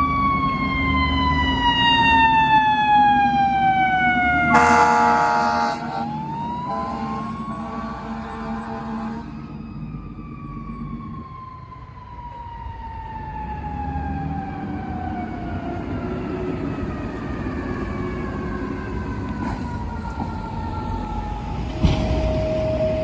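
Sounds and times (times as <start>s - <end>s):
fire truck siren wailing: 0.0s - 23.0s
truck engine rumble: 1.7s - 23.0s.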